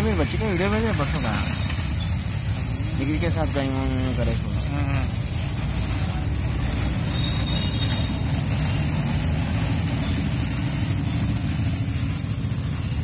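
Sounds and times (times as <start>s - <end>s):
welding torch flame rushing: 0.0s - 13.0s.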